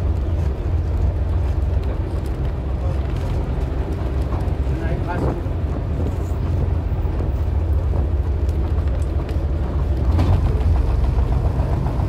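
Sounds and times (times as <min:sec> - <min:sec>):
bus engine droning: 0:00.0 - 0:12.0
road noise: 0:00.0 - 0:12.0.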